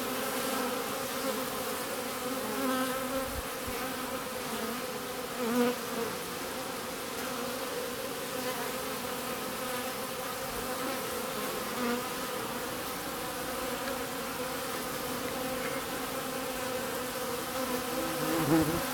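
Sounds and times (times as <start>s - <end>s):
honeybees buzzing: 0.0s - 18.9s.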